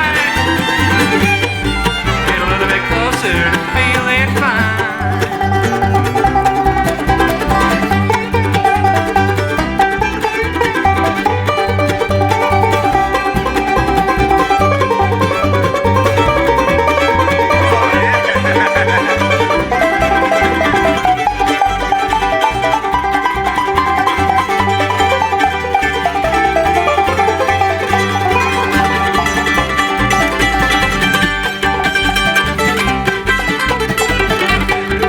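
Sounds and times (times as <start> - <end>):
banjo: 0.0 - 35.0
fiddle: 0.0 - 35.0
guitar: 0.0 - 35.0
low rhythmic pulse: 0.0 - 35.0
mandolin: 0.0 - 35.0.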